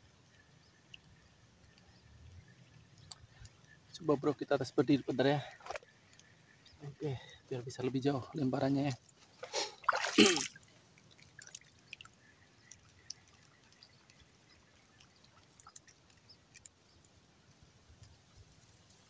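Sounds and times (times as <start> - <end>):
water dripping: 0.0 - 18.2.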